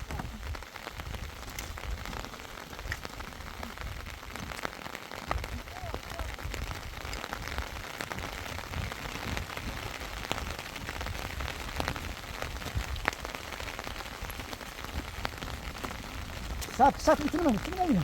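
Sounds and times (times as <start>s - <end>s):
rain falling: 0.0s - 18.0s
sharp ticks of raindrops: 0.0s - 18.0s.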